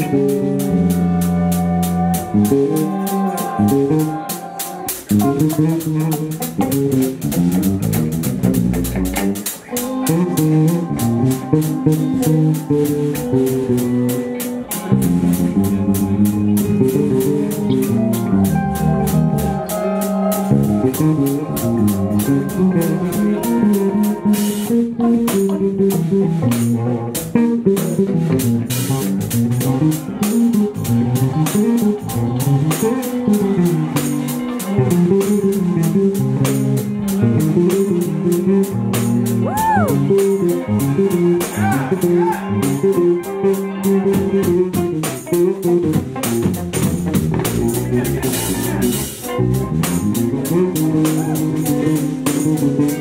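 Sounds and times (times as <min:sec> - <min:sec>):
drum kit with cymbals: 0:00.0 - 0:53.0
electric bass: 0:00.0 - 0:53.0
electric guitar lines: 0:00.0 - 0:53.0.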